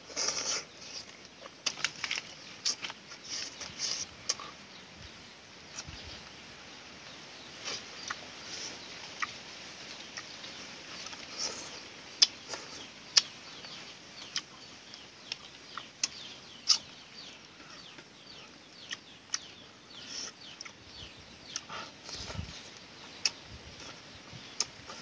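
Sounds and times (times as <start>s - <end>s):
faint bird chirps: 2.3s - 25.0s.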